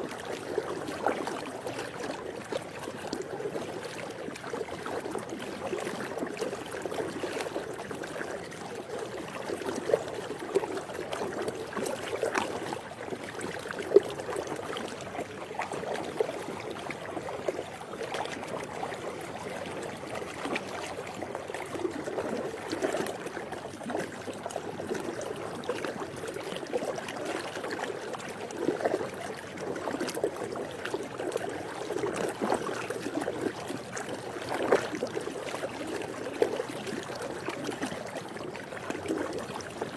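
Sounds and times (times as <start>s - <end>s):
pool water lapping and splashing: 0.0s - 39.9s.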